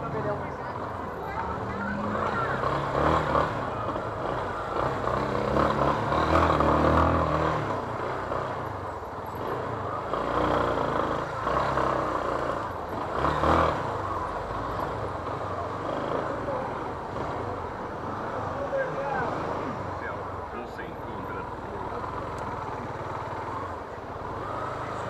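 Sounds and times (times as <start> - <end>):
motorcycle engine revving: 0.0 - 20.6, 21.4 - 25.0.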